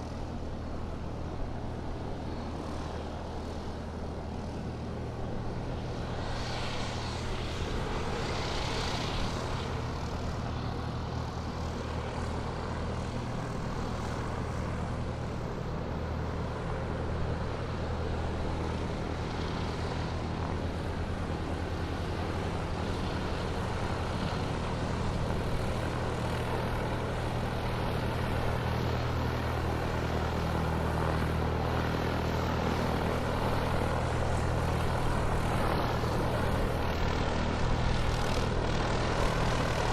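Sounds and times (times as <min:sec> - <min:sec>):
airplane engines humming: 0:00.0 - 0:39.9.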